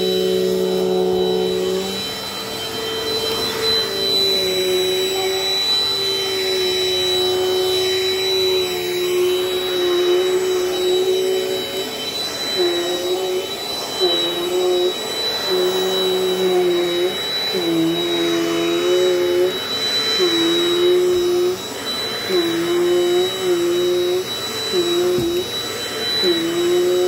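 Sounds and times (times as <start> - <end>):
vacuum cleaner running on carpet: 0.0 - 27.0.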